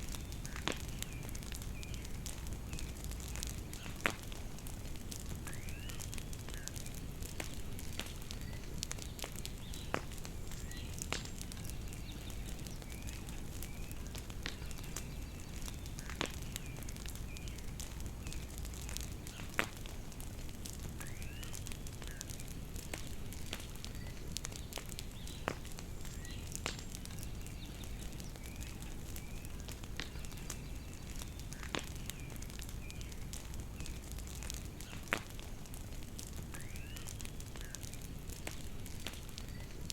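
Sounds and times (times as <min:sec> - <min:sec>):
birds chirping faintly: 0:00.0 - 0:39.9
bonfire crackling and popping: 0:00.0 - 0:39.9.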